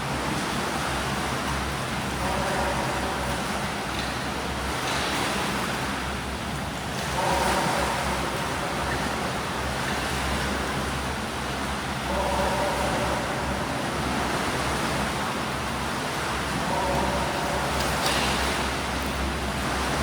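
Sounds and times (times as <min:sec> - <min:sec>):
low steady hum: 0:00.0 - 0:20.0
water splashing from swimmers: 0:00.0 - 0:20.0.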